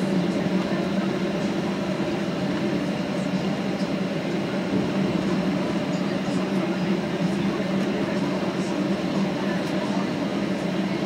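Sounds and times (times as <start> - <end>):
aircraft cabin engine hum: 0.0 - 11.0.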